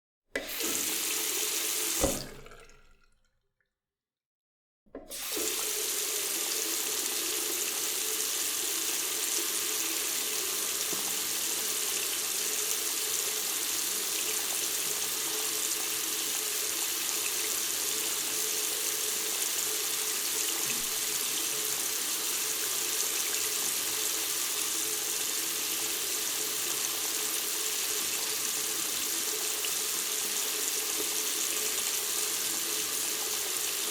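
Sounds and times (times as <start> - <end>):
water tap running: 0.4 - 3.0, 5.0 - 33.9.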